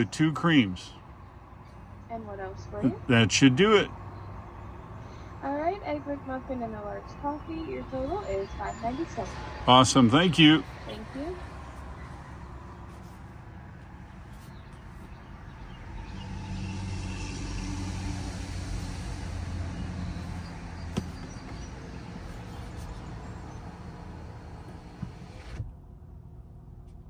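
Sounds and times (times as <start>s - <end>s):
low vehicle cabin hum: 0.0s - 27.0s.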